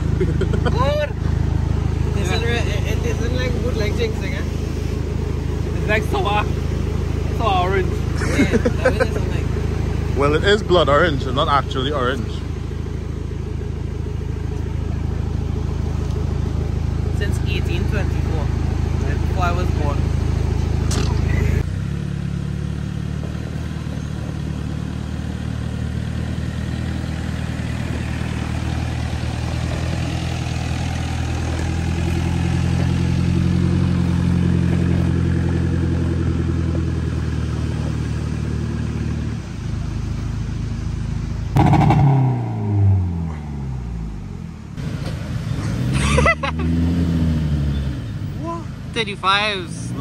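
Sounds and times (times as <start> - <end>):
truck engine pulling in low gear: 0.0 - 50.0.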